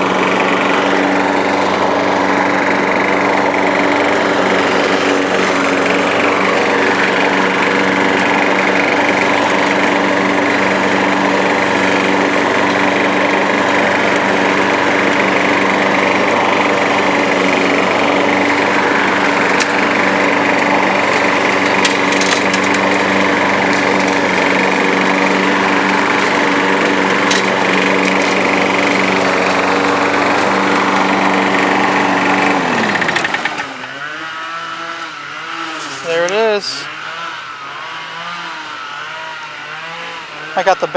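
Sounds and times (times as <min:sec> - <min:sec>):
push mower engine running: 0:00.0 - 0:40.9.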